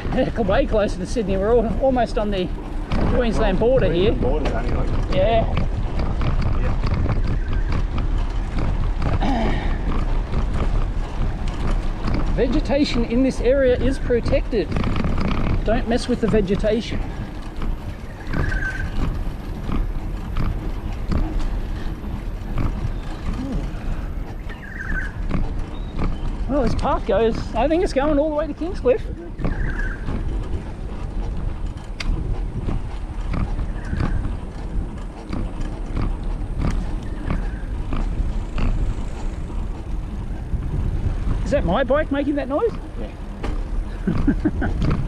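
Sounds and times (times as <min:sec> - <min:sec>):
bicycle knocks and rattles: 0:00.0 - 0:45.0
wind buffeting microphone: 0:00.0 - 0:45.0.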